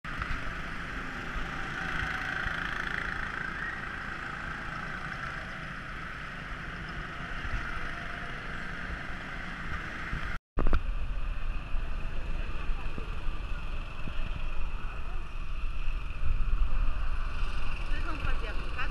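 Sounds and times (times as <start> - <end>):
go-kart engines droning: 0.1 - 18.9
uneven engine rumble: 0.1 - 18.9.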